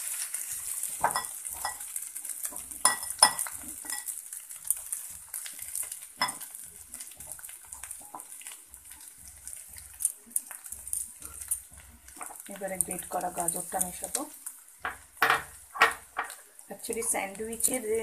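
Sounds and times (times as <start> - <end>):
potato sizzling in a pan: 0.0 - 18.0.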